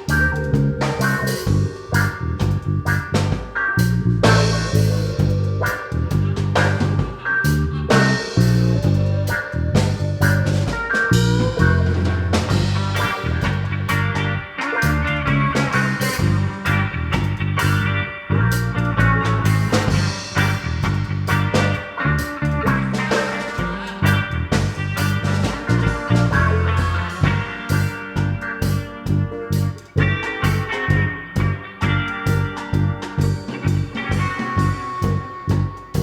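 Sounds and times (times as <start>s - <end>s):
bass guitar: 0.0s - 36.0s
bending lead guitar line: 0.0s - 36.0s
drum kit: 0.0s - 36.0s
electric guitar: 0.0s - 36.0s.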